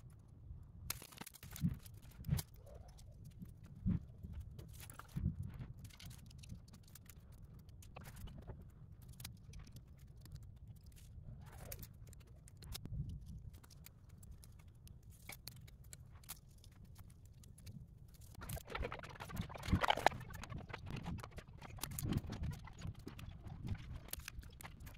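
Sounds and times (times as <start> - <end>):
wires clicking and rustling: 0.0 - 24.9.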